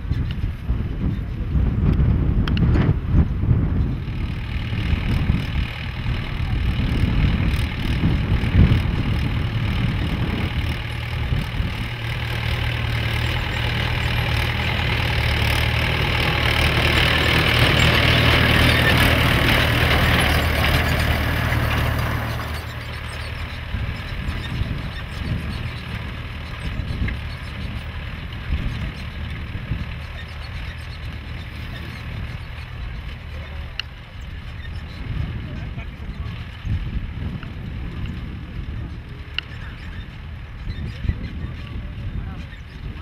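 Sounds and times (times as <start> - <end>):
diesel tractor engine running: 0.0 - 43.0.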